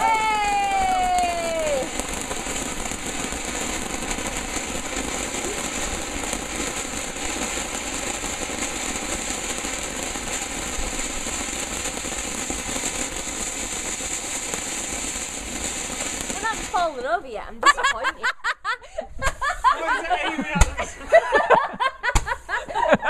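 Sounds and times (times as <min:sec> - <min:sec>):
firework fountain hissing and crackling: 0:00.0 - 0:23.0.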